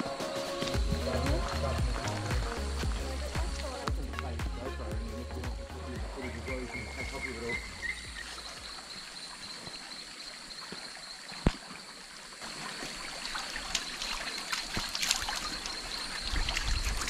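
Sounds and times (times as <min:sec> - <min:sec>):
stream water trickling: 0:00.0 - 0:17.0.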